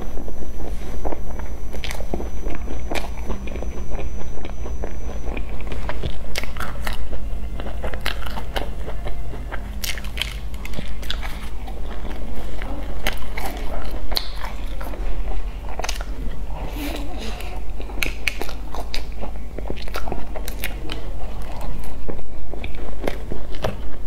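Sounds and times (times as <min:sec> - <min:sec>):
chewing: 0:00.0 - 0:24.0
crisp pastry crunching: 0:00.0 - 0:24.0
steady low hum: 0:00.0 - 0:24.0.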